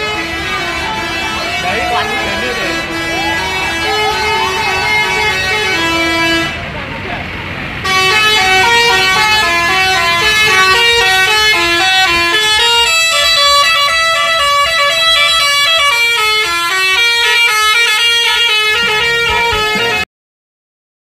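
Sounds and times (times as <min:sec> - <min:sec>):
musical bus air horn: 0:00.0 - 0:06.7, 0:07.8 - 0:20.1.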